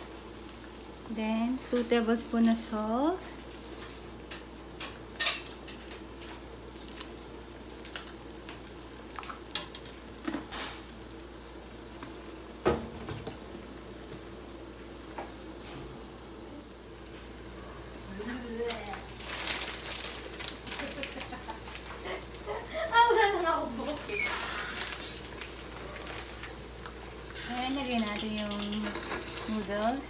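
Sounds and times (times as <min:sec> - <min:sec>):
water boiling in a pot: 0:00.0 - 0:30.0.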